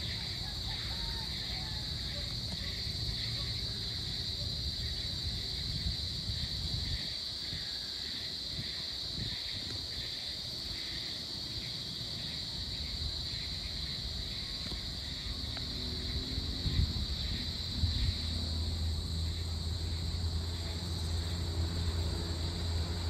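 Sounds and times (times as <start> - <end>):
low pulsing insect call: 0.0 - 23.0.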